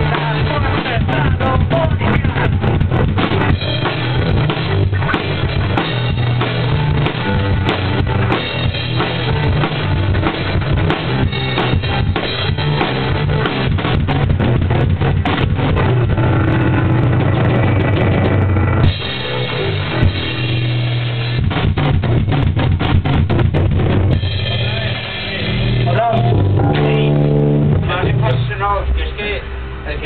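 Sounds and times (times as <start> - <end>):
drum kit played hard: 0.0 - 30.0
sustained low riff notes: 0.0 - 30.0.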